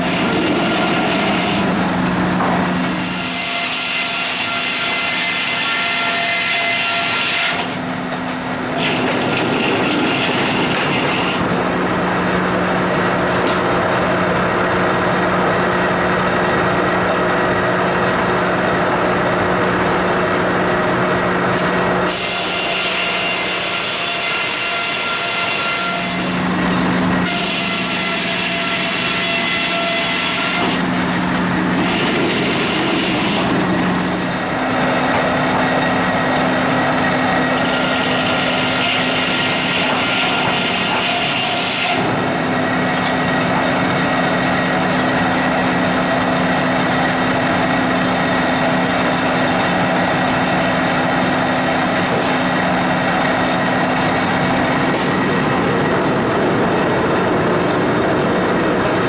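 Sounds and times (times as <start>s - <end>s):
saw hissing through log: 0.0s - 12.8s, 21.6s - 56.7s
sawmill machine hum: 0.0s - 59.0s.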